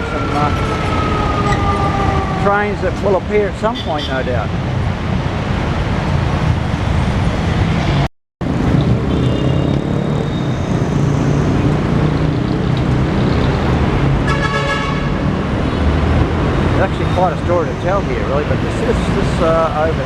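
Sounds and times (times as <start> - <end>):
heavy road traffic rumble: 0.0 - 20.0.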